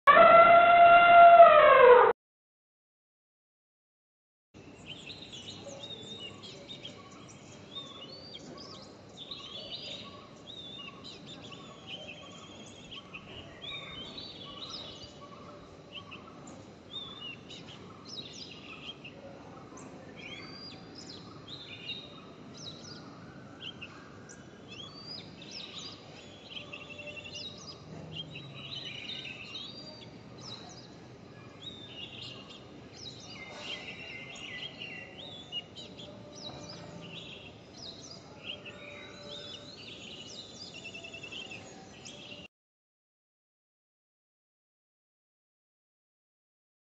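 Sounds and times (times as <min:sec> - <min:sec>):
birds chirping and trilling: 0:00.1 - 0:02.1, 0:04.6 - 0:42.5.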